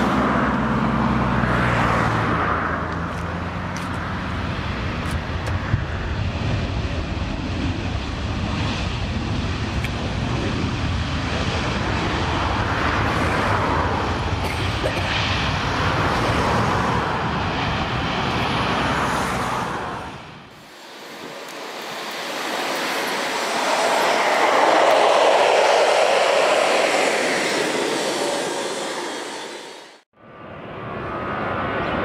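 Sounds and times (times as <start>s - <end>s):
jet engine roar overhead: 0.0s - 32.0s.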